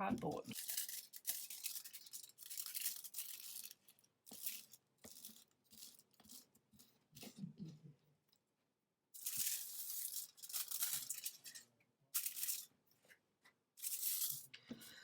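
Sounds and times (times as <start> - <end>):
scratchy handling noises: 0.0 - 7.4, 9.2 - 13.2, 13.8 - 14.5.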